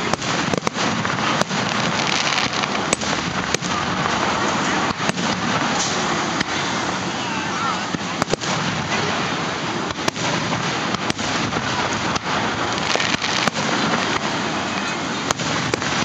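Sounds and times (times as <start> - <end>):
fireworks bangs: 0.0 - 16.0
steady hiss: 0.0 - 16.0.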